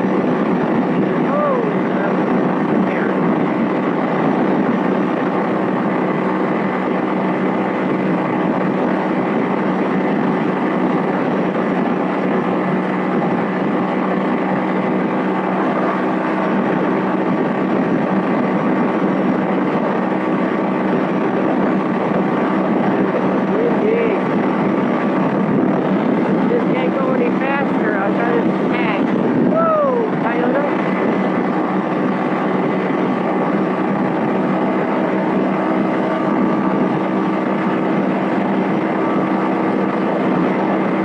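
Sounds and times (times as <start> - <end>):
motorcycle engine droning: 0.0 - 41.0
road noise: 0.0 - 41.0
rushing wind: 0.0 - 41.0.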